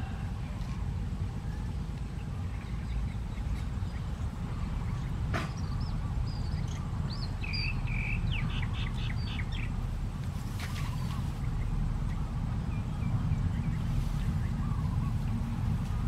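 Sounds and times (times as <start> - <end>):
birds calling: 0.0 - 16.0
steady low rumble: 0.0 - 16.0.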